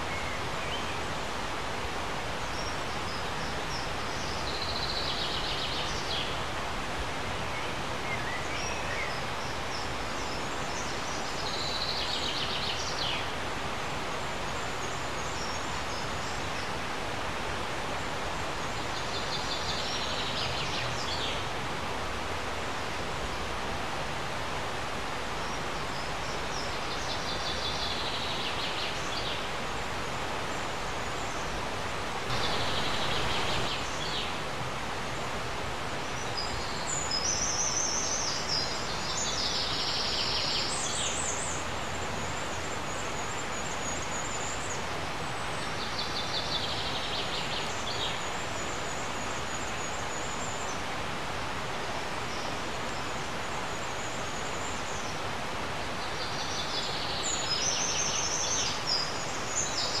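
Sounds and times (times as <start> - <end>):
small birds twittering: 0.0 - 22.0, 24.7 - 34.9, 35.7 - 60.0
river flowing: 0.0 - 60.0.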